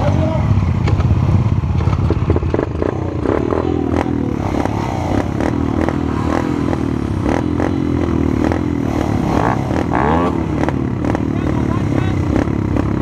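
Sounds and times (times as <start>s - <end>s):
minibike engine running: 0.0s - 13.0s.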